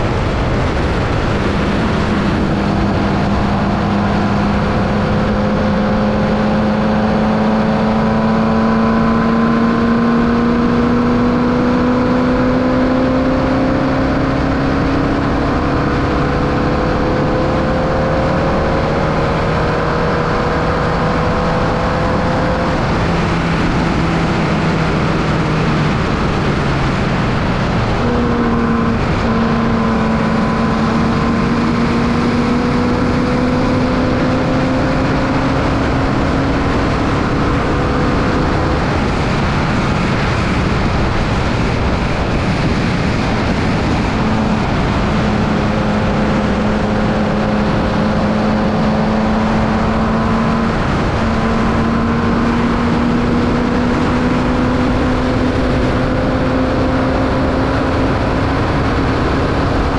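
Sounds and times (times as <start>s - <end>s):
race car engine running: 0.0s - 59.9s
wind and road noise: 0.0s - 59.9s.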